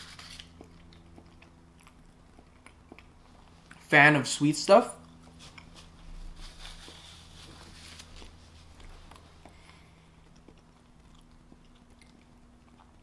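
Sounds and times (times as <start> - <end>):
soft chewing: 0.0 - 3.8, 5.0 - 13.0
steady low hum: 0.0 - 13.0.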